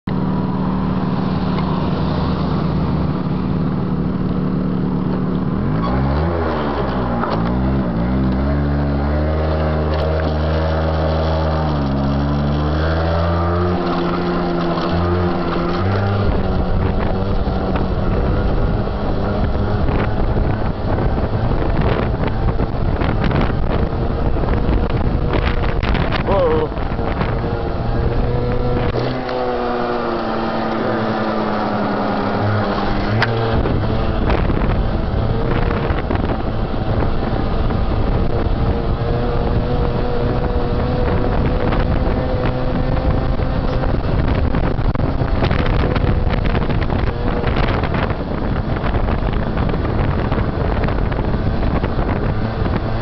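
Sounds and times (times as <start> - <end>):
moped engine idling and revving: 0.0 - 53.0
wind rushing over microphone: 0.1 - 53.0.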